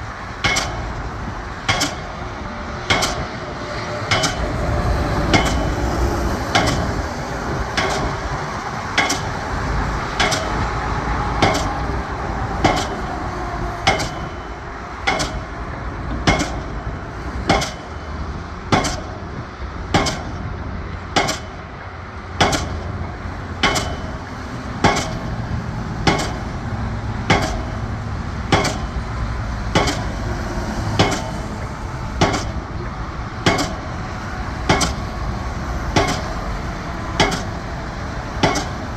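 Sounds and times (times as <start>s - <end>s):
pile hammer metallic strikes: 0.4s - 3.4s, 4.0s - 5.8s, 6.5s - 13.1s, 13.8s - 18.0s, 18.7s - 19.2s, 19.9s - 20.5s, 21.1s - 21.7s, 22.4s - 23.0s, 23.6s - 31.6s, 32.2s - 32.7s, 33.4s - 38.9s.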